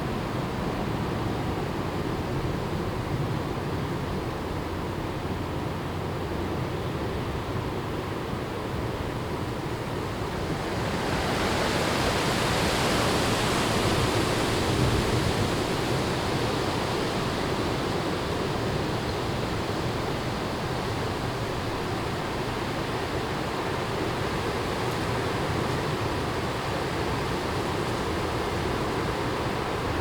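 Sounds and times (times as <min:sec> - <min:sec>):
wind gusting through trees: 0:00.0 - 0:30.0.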